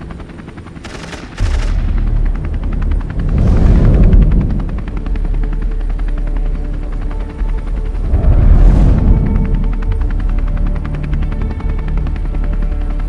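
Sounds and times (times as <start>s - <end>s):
rapid even pulsing: 0.2s - 13.0s
deep rumble: 1.4s - 12.1s.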